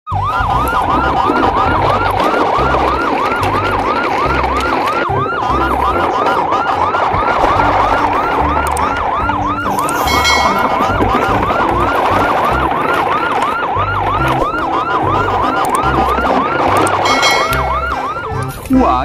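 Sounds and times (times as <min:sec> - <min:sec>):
deep pulsing low beat: 0:00.1 - 0:18.9
electronic siren yelp: 0:00.1 - 0:19.0.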